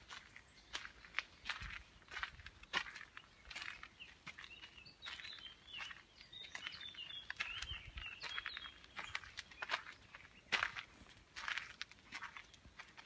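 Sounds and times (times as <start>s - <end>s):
footsteps on outdoor path: 0.0s - 13.0s
bird chirping: 0.1s - 11.1s.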